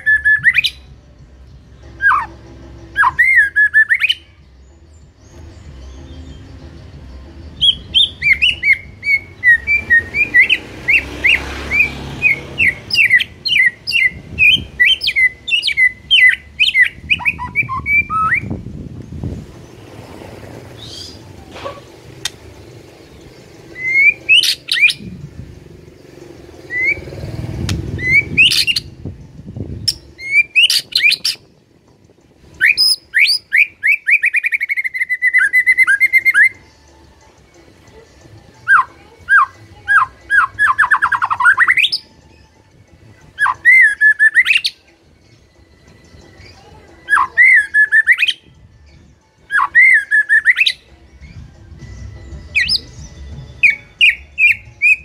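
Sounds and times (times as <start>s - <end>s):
bird singing whistled notes: 0.0s - 19.7s, 20.8s - 55.0s.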